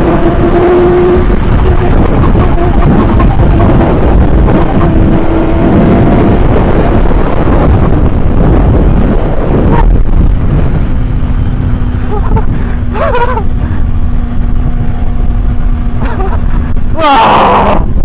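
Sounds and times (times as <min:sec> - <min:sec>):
motorcycle engine at speed: 0:00.0 - 0:17.0
wind roar on microphone: 0:00.0 - 0:18.0.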